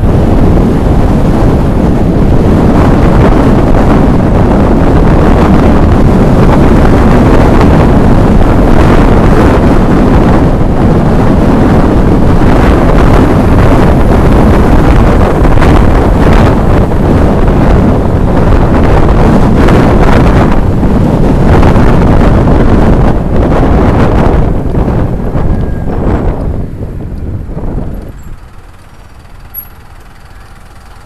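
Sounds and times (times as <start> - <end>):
road and vehicle noise: 0.0 - 31.0
wind buffeting microphone: 0.0 - 31.0.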